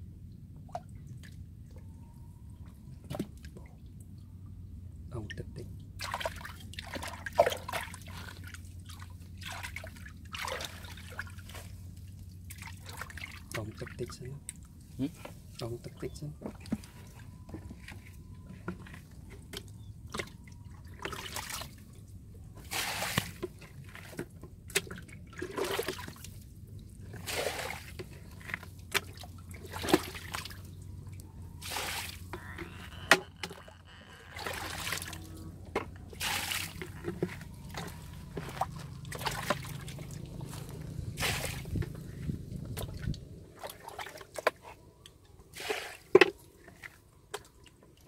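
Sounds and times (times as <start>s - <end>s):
muddy water splashing: 5.6s - 48.0s.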